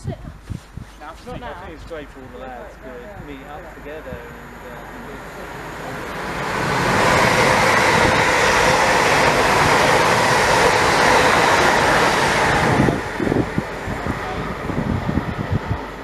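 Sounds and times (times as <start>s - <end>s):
train rushing past: 1.3s - 16.0s.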